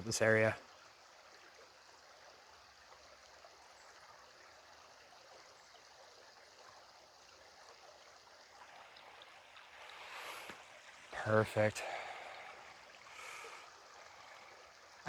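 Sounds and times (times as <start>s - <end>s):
shallow stream trickling: 0.0s - 15.0s.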